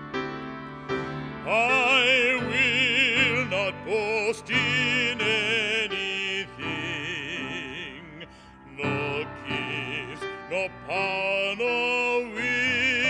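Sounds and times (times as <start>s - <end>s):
man singing a hymn: 1.4s - 13.0s.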